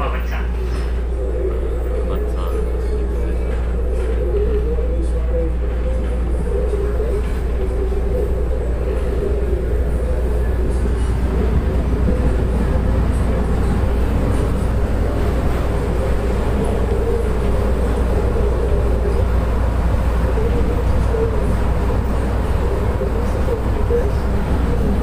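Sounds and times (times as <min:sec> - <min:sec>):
constant hum: 0:00.0 - 0:25.0
train car low rumble: 0:00.0 - 0:25.0.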